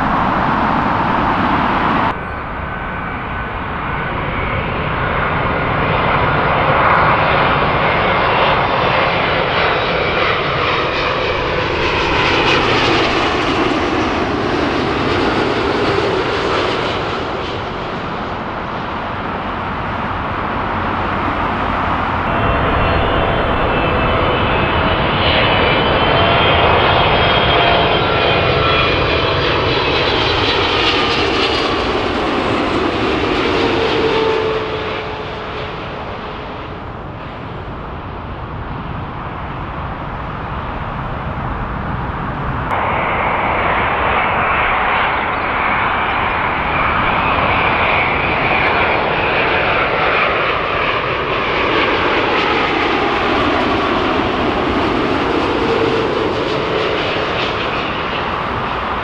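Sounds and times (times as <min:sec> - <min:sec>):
jet airliner engines passing: 0:00.0 - 0:59.0.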